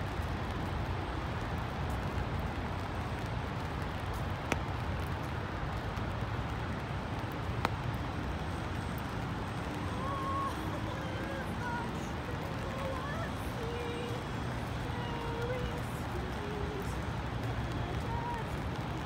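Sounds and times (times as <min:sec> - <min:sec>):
city traffic hum: 0:00.0 - 0:19.0
rain on wet pavement: 0:00.0 - 0:19.0.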